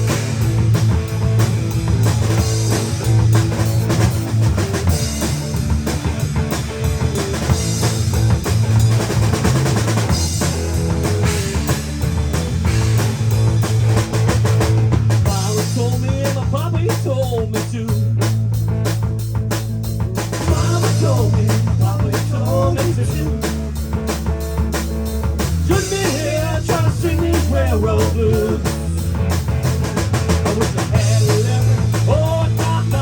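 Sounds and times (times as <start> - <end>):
drum kit: 0.0 - 33.0
rock band playing: 0.0 - 33.0.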